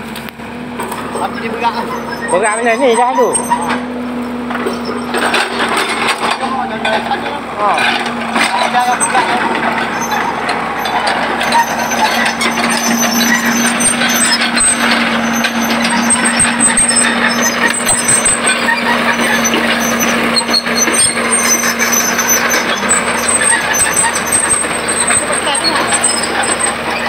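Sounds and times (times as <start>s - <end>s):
excavator diesel engine running: 0.0s - 27.0s
knocks and crackles: 3.6s - 27.0s.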